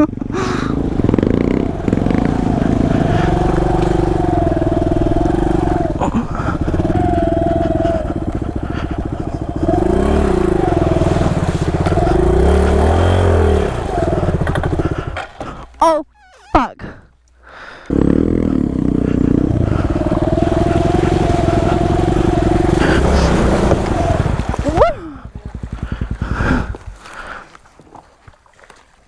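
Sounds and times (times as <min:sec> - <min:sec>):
dirt bike engine revving: 0:00.0 - 0:15.6, 0:17.9 - 0:27.4.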